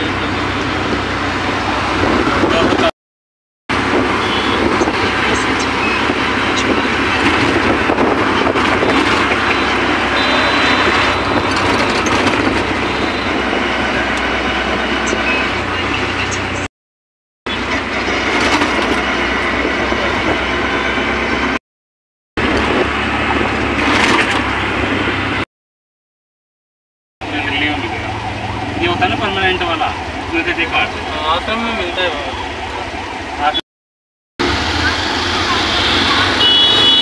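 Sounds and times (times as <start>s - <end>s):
auto-rickshaw engine running: 0.0s - 2.9s, 3.7s - 16.7s, 17.5s - 21.6s, 22.4s - 25.4s, 27.2s - 33.6s, 34.4s - 37.0s
road and wind noise: 0.0s - 3.0s, 3.7s - 16.7s, 17.5s - 21.6s, 22.4s - 25.5s, 27.2s - 33.6s, 34.4s - 37.0s.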